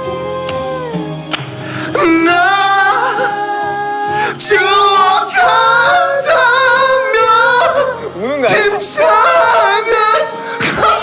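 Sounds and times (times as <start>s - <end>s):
music: 0.0s - 11.0s
person singing: 0.0s - 11.0s.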